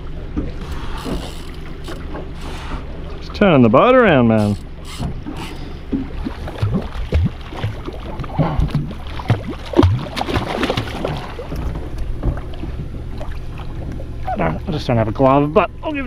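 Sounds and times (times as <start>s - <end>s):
outboard motor running: 0.0s - 16.0s
water slapping hull: 0.0s - 16.0s.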